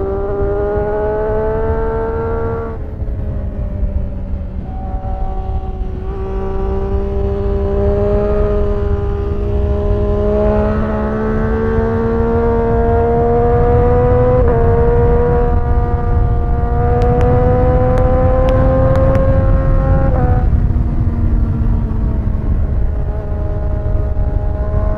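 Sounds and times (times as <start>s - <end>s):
motorcycle engine accelerating: 0.0s - 24.9s
wind rumble on microphone: 0.0s - 24.9s.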